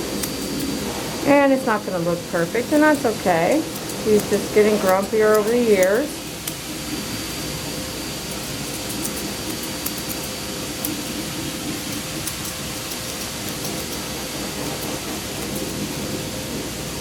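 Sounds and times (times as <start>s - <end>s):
water running from spray hose: 0.0s - 17.0s.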